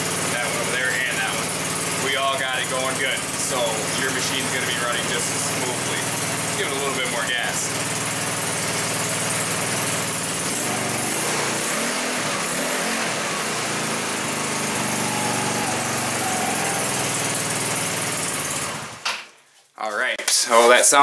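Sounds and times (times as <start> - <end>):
go-kart engine running: 0.0 - 19.1.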